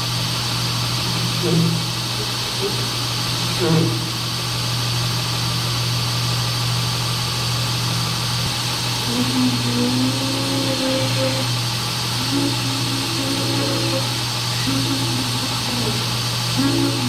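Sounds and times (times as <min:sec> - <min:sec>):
sander motor hum and whine: 0:00.0 - 0:17.0
higher humming tones: 0:00.6 - 0:05.8, 0:08.4 - 0:17.0.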